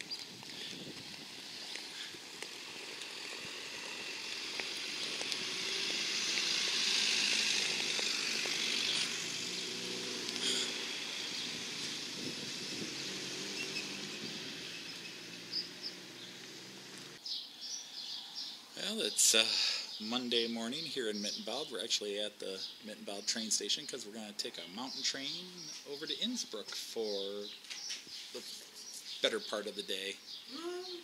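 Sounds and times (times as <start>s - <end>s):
steady street hiss: 0.0s - 31.0s.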